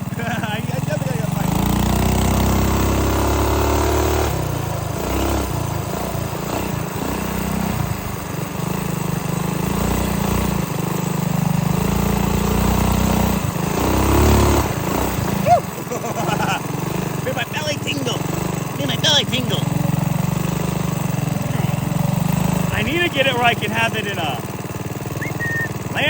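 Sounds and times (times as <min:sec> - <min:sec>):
minibike engine running: 0:00.0 - 0:26.0.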